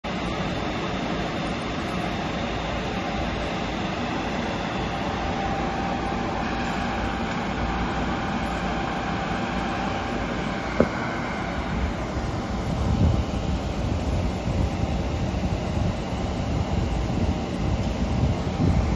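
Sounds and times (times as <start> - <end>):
pumps and ventilation hum: 0.0 - 18.9.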